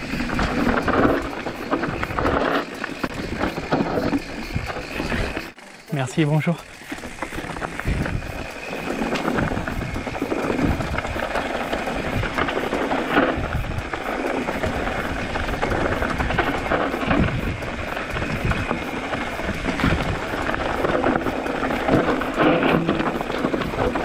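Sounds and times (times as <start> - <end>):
mountain bike clattering: 0.0 - 24.0
tyres crunching over stones: 0.0 - 24.0.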